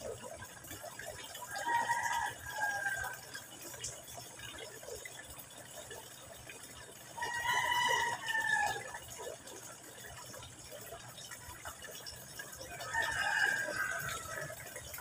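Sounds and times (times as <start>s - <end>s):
hose water splashing into pond: 0.0s - 15.0s.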